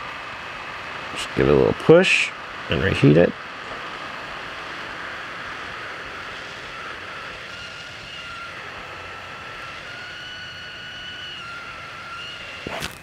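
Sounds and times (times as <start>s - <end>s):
faint whine: 0.0s - 13.0s
hot air station hissing: 0.0s - 13.0s.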